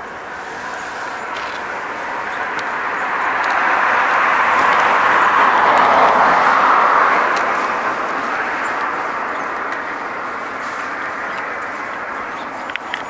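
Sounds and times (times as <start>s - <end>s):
car passing tyre noise: 0.0s - 13.0s.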